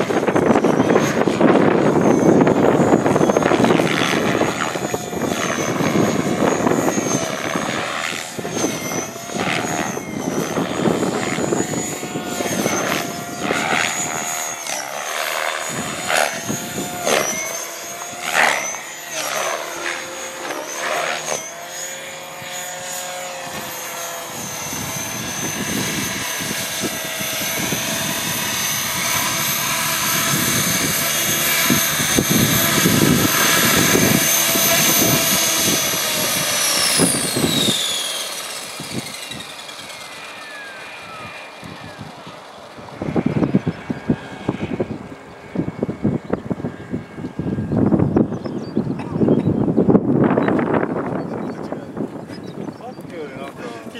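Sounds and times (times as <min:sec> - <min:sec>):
wind rumbling on microphone: 0:00.0 - 0:20.8, 0:22.0 - 0:53.9
model helicopter rotor whine: 0:00.0 - 0:53.9.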